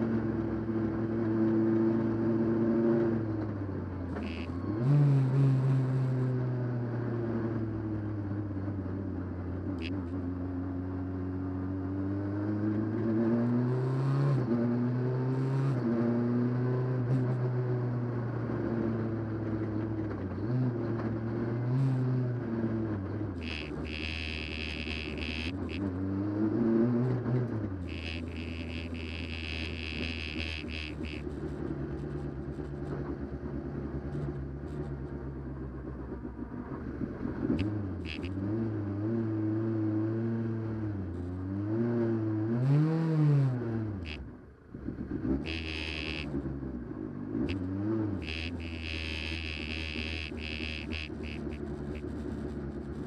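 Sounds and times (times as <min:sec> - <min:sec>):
car engine revving: 0:00.0 - 0:08.1, 0:18.1 - 0:53.0.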